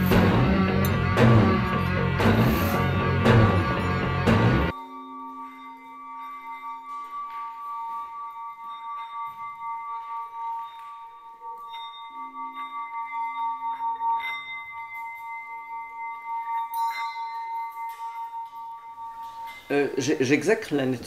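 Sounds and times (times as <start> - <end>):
struck ringing tones: 0.0 - 21.0
sustained ringing tones: 0.0 - 21.0.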